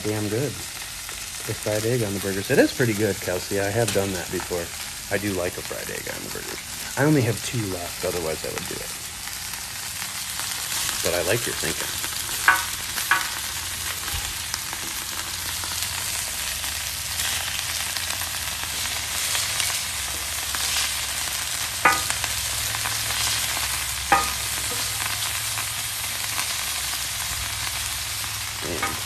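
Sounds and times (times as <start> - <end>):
meat sizzling on a griddle: 0.0 - 29.0.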